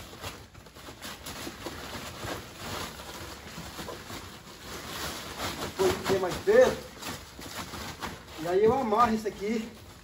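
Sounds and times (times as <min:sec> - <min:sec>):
plastic sack rustling: 0:00.0 - 0:10.0.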